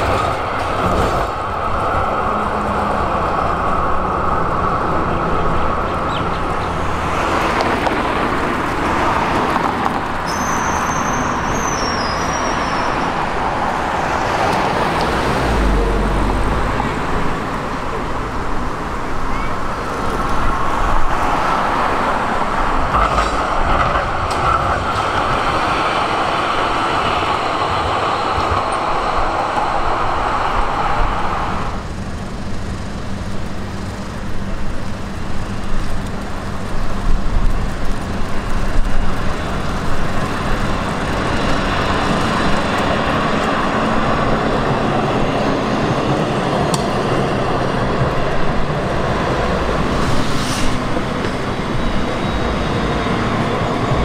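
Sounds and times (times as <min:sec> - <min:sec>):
electric trams running: 0:00.0 - 0:54.0
passing car traffic: 0:00.0 - 0:54.0.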